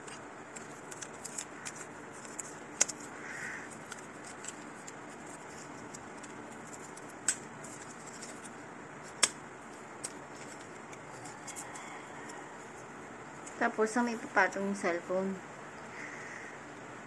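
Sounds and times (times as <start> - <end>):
faint room hiss: 0.0 - 17.0.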